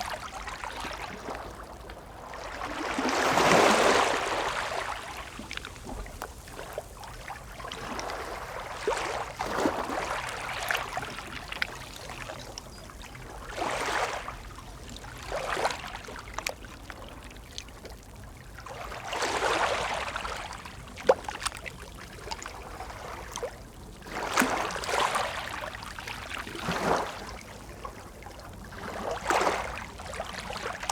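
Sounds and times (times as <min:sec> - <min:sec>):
small waves lapping: 0:00.0 - 0:30.9.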